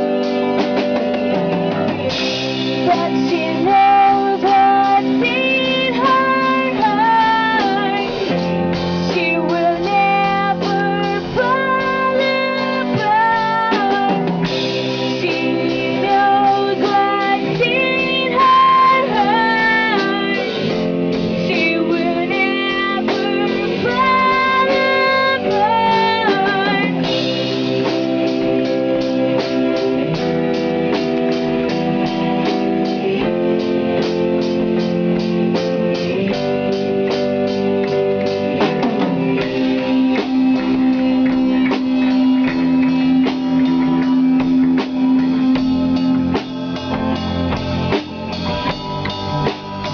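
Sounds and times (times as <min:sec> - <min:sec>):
band playing with guitars and drums: 0:00.0 - 0:49.9.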